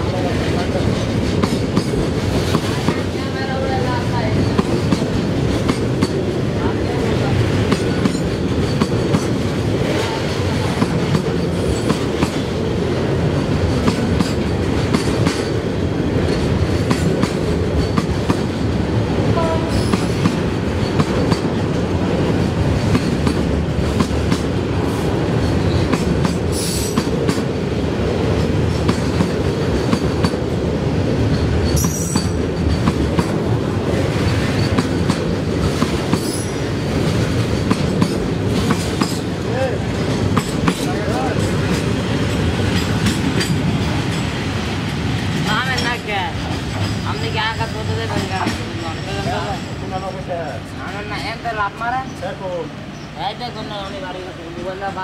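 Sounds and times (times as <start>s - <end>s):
freight train wheels clattering: 0.0s - 51.8s.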